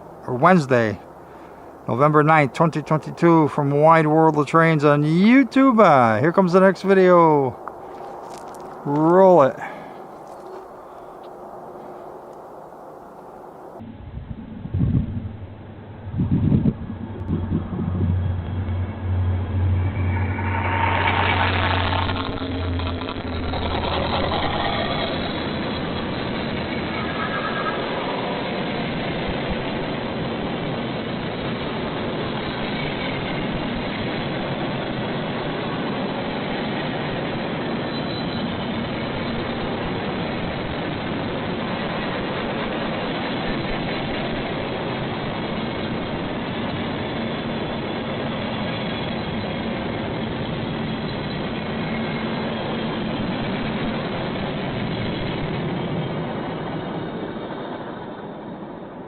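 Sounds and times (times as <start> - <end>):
train rolling past: 0.0 - 59.0.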